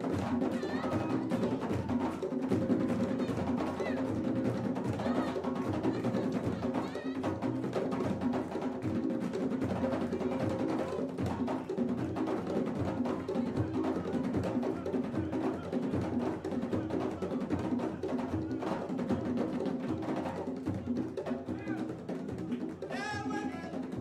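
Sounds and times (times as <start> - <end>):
music with drum beat: 0.0 - 24.0.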